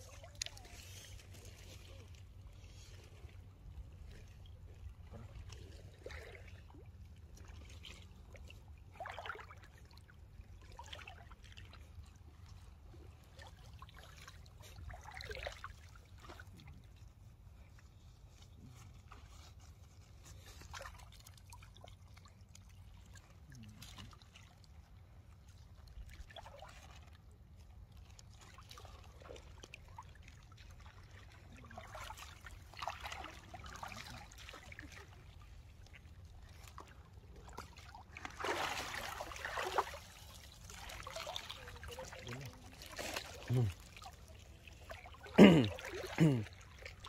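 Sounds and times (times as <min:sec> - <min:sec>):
water splashing and sloshing: 0:00.0 - 0:47.0.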